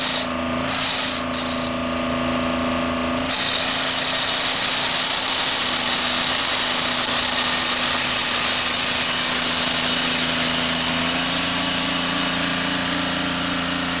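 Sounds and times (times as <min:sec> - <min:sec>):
machine engine humming: 0:00.0 - 0:14.0.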